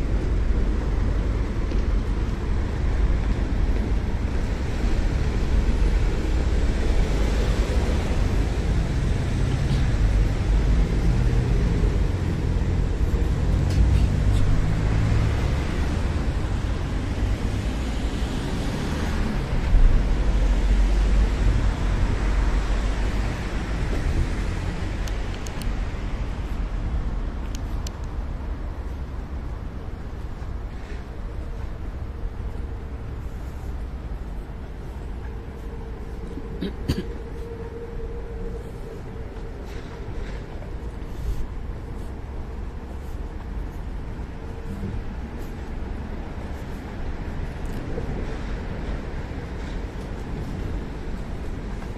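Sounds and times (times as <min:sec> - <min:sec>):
road traffic hiss: 0:00.0 - 0:51.9.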